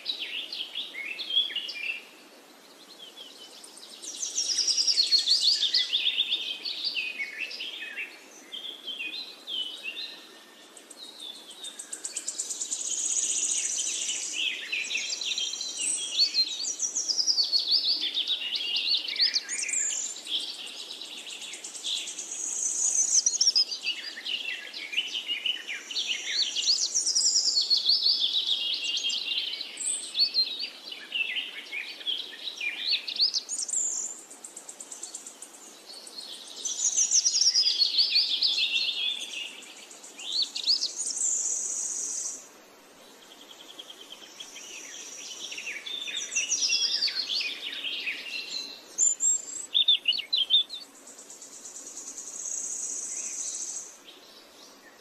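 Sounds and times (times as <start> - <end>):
birds chirping in chorus: 0.0 - 55.0.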